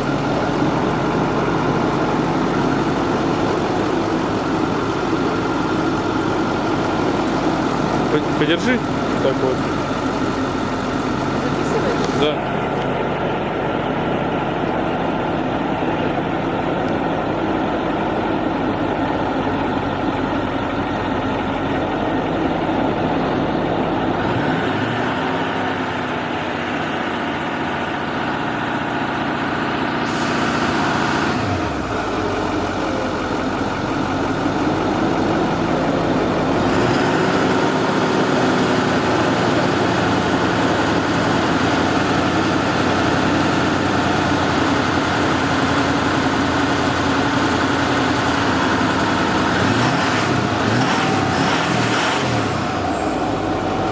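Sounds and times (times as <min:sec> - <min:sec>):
truck engine idling and revving: 0:00.0 - 0:53.9.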